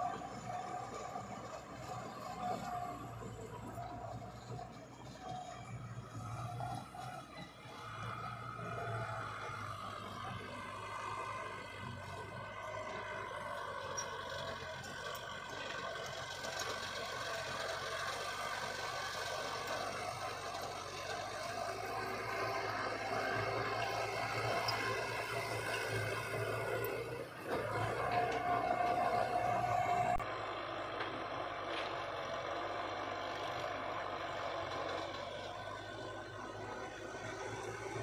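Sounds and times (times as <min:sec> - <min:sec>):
heavy machinery engine running: 0:00.0 - 0:38.0.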